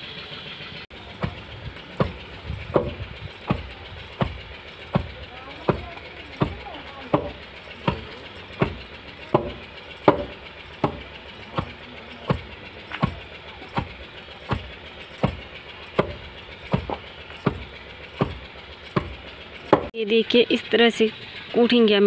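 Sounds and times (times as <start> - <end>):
wooden pestle pounding thuds: 1.0 - 20.0.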